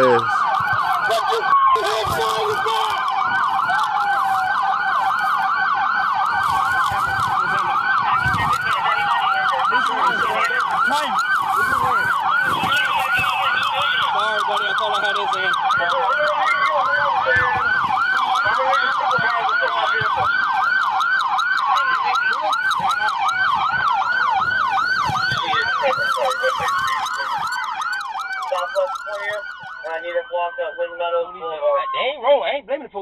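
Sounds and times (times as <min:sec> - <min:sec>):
police siren wail: 0:00.0 - 0:32.3
police siren yelp: 0:00.0 - 0:32.3.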